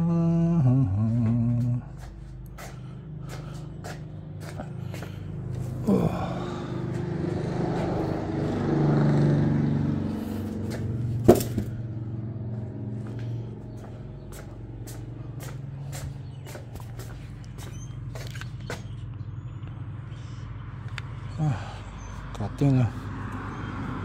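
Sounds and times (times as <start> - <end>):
motor vehicle hum: 0.0 - 24.0.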